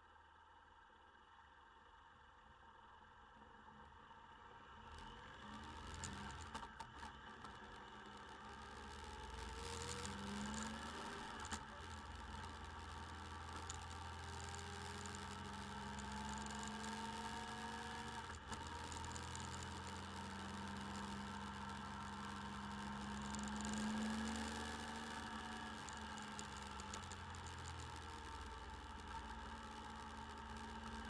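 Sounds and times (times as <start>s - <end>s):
motorcycle engine running: 5.5s - 31.0s.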